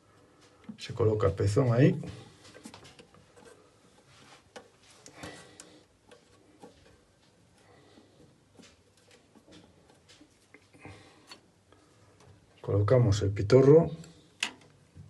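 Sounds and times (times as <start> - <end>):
rubbing of rubber parts: 0.0 - 12.7.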